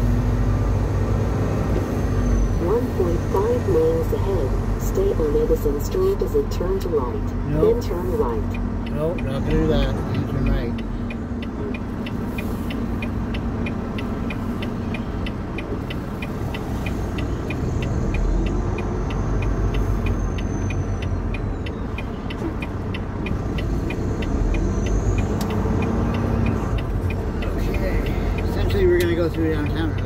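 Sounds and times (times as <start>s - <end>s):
diesel engine rumbling: 0.0s - 30.0s
turn signal clicking: 2.8s - 30.0s.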